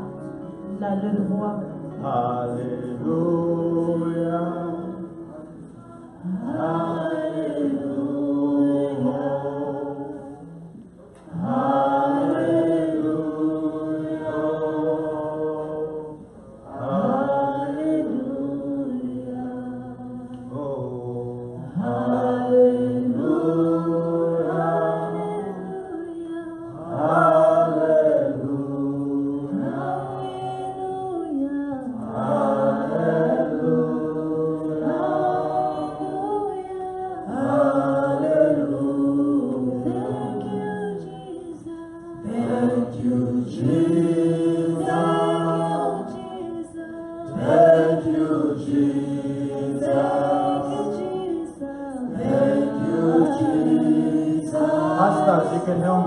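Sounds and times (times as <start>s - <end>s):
group of voices singing: 0.0s - 56.0s.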